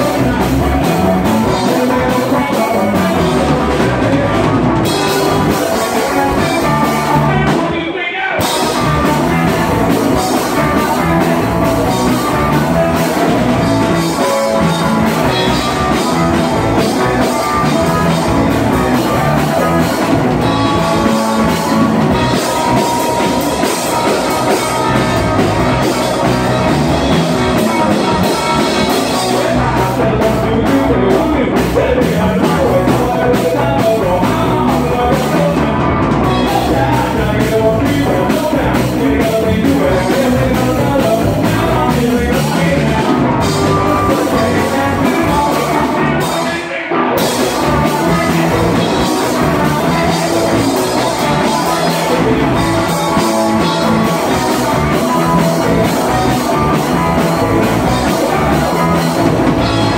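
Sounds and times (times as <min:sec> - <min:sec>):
drum kit: 0:00.0 - 0:59.9
electric bass: 0:00.0 - 0:59.9
electric guitar: 0:00.0 - 0:59.9.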